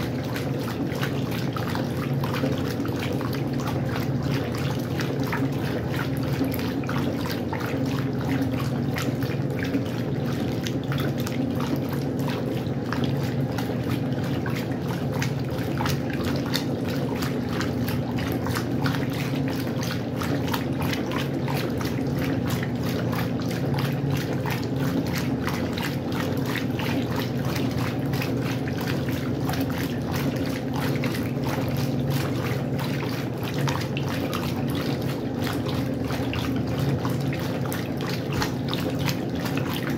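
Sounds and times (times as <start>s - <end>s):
washing machine motor hum: 0.0s - 39.9s
water splashing and trickling: 0.0s - 39.9s.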